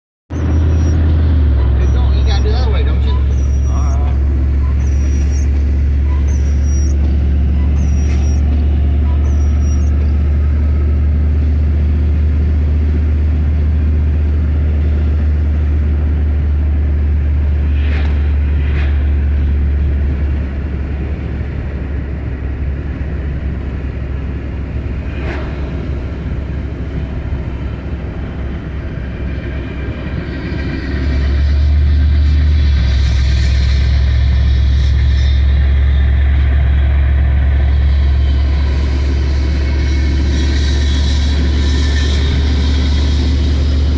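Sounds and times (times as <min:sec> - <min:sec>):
train rumbling: 0:00.3 - 0:43.9.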